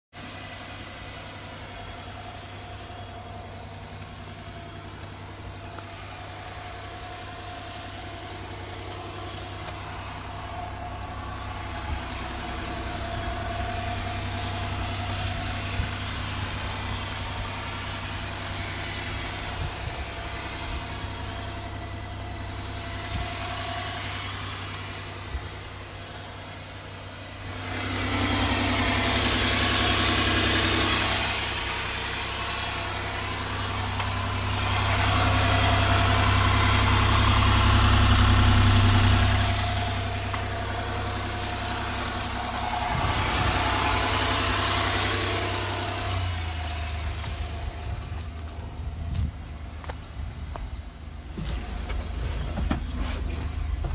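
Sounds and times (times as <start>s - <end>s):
truck engine idling: 0.1s - 53.9s.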